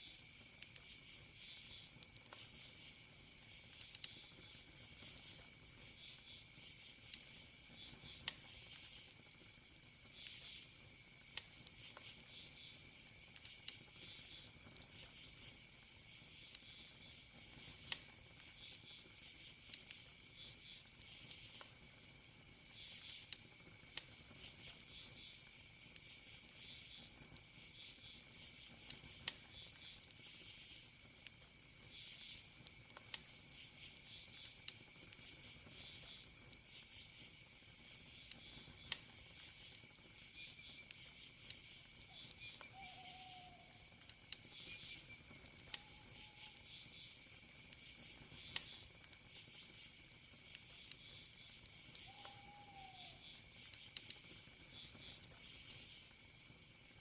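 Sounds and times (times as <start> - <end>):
campfire crackling: 0.0 - 57.0
crickets chirping: 0.0 - 57.0.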